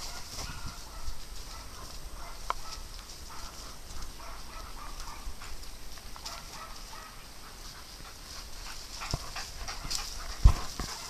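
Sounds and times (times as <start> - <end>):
dry leaves rustling: 0.0 - 11.0
light outdoor noise: 0.0 - 11.0.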